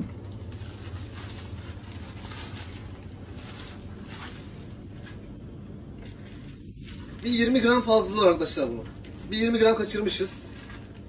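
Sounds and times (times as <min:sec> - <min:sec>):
low steady hum: 0:00.0 - 0:11.0
plastic bag crinkling: 0:00.0 - 0:11.0.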